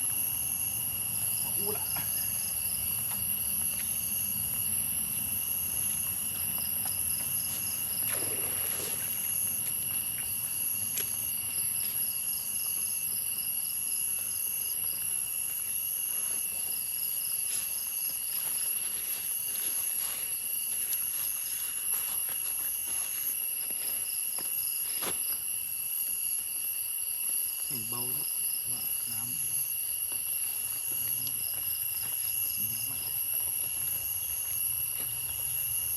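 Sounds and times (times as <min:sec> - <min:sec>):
insect drone: 0:00.0 - 0:35.9
pulsing insect chirps: 0:00.0 - 0:35.9.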